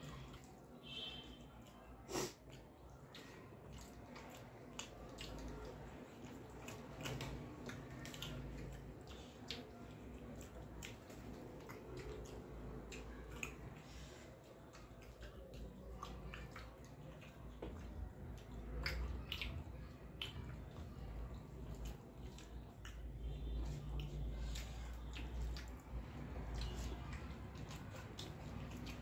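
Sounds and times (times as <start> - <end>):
chewing: 0.0 - 29.0.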